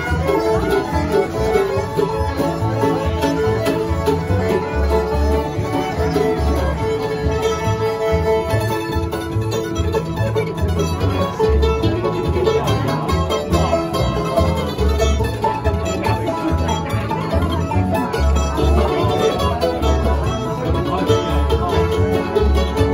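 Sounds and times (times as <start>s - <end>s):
acoustic guitar: 0.0s - 22.9s
banjo picking: 0.0s - 22.9s
fiddle: 0.0s - 22.9s
mandolin: 0.0s - 22.9s
plucked upright bass: 0.0s - 22.9s.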